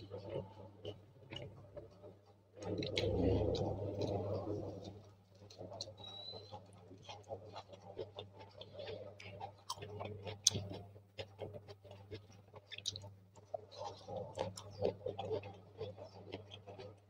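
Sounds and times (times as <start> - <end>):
wet chewing: 2.6 - 17.0.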